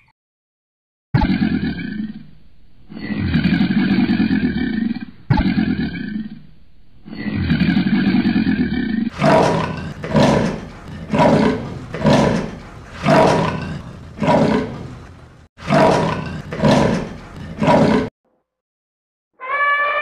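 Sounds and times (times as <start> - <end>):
big cat snarling and roaring: 1.2 - 18.1.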